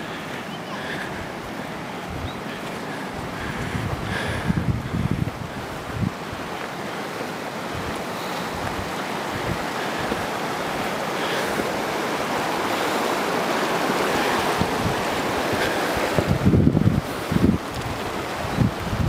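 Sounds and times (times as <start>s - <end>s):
river rushing: 0.0s - 19.0s
wind buffeting microphone: 0.0s - 19.0s.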